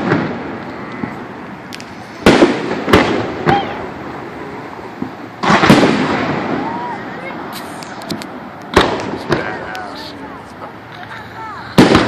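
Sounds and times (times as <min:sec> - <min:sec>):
fireworks bursting with echoes: 0:00.0 - 0:12.0.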